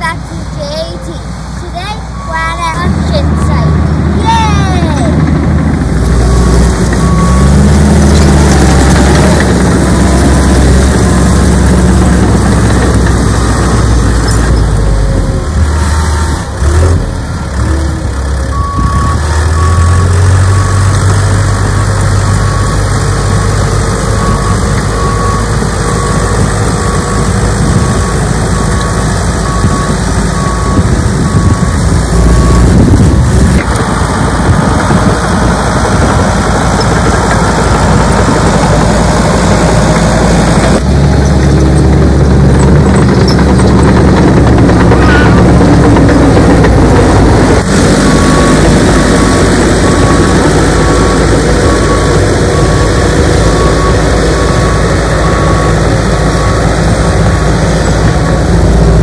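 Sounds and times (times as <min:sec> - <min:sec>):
bulldozer diesel engine running: 0:00.0 - 0:59.0
excavator diesel engine digging: 0:00.0 - 0:59.0.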